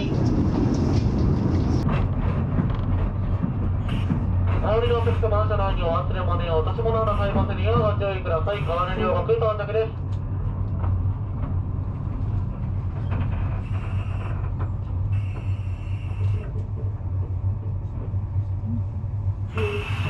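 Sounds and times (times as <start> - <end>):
train rumble inside carriage: 0.0 - 20.0.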